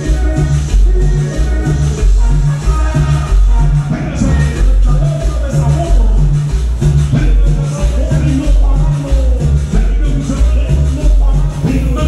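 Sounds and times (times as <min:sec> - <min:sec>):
cumbia music over sound system: 0:00.0 - 0:12.0
heavy bass beat: 0:00.0 - 0:12.0.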